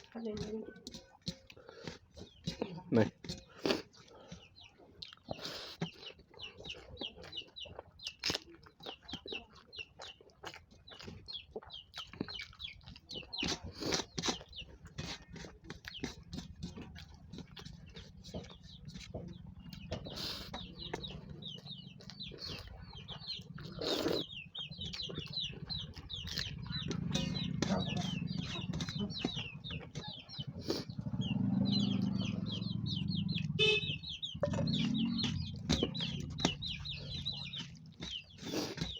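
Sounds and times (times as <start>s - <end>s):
chickens clucking and chirping: 0.0s - 38.9s
close-up chewing and mouth clicks: 0.0s - 38.9s.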